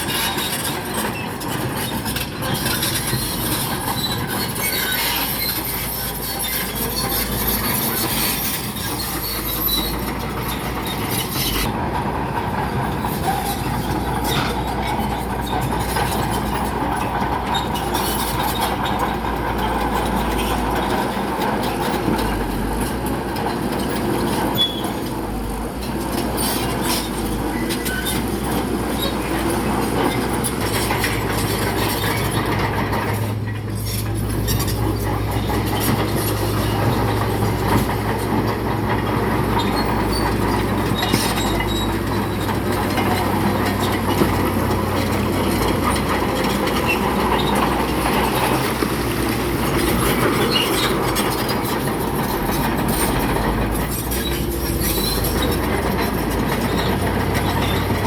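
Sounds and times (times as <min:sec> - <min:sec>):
bulldozer diesel engine running: 0:00.0 - 0:58.0
steel tracks clanking and squealing: 0:00.0 - 0:58.0.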